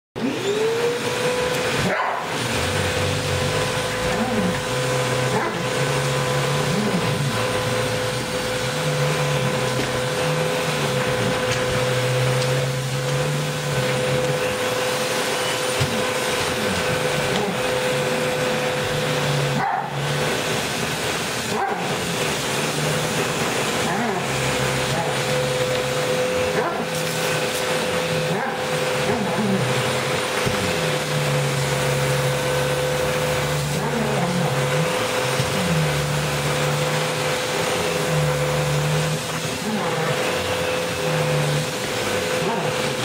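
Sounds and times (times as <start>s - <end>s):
vacuum cleaner running: 0.0s - 43.0s
dog growling and barking: 1.7s - 14.5s, 15.7s - 43.0s.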